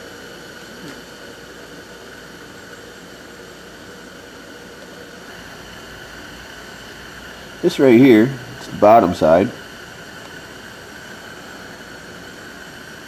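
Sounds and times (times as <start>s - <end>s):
background hiss: 0.0s - 13.0s
faint high hum: 0.0s - 13.0s.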